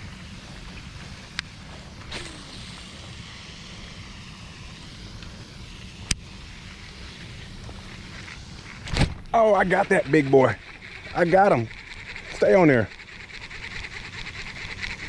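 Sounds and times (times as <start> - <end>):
wind rumbling on microphone: 0.0 - 12.6.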